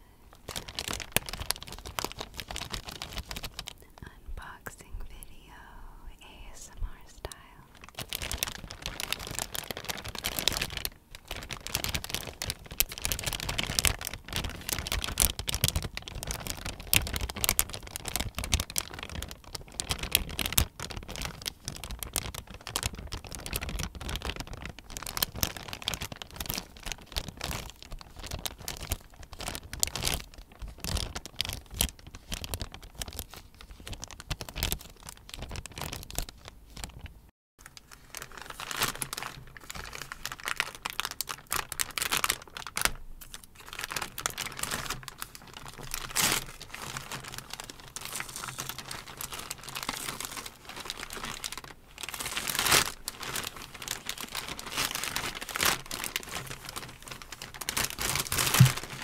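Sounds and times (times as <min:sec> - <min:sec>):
plastic mailer crinkling: 0:00.0 - 0:04.2, 0:07.3 - 0:59.0.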